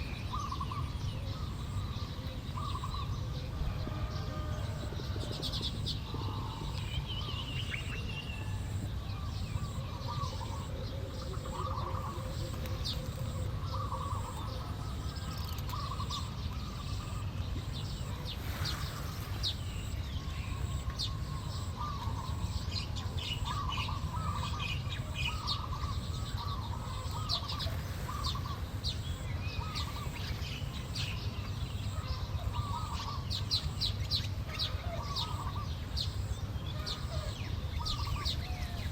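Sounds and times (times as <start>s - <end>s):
birds chirping and chattering: 0.0s - 38.9s
low repeated bird call: 0.0s - 38.9s.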